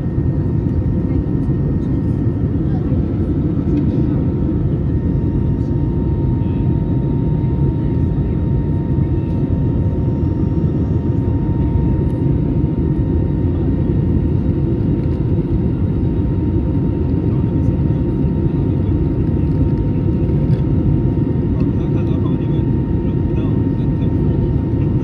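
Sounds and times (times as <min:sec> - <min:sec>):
airflow rush and engine drone: 0:00.0 - 0:25.0.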